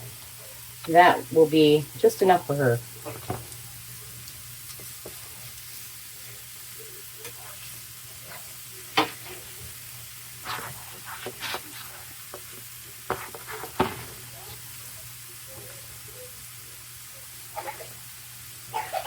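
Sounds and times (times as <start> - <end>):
sausages sizzling in a frying pan: 0.0 - 19.0.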